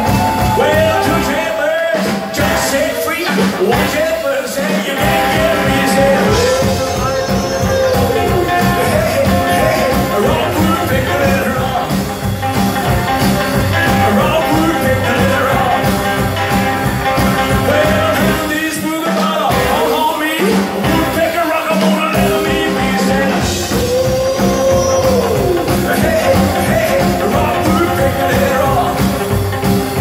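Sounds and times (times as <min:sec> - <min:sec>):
rockabilly band playing: 0:00.0 - 0:30.0.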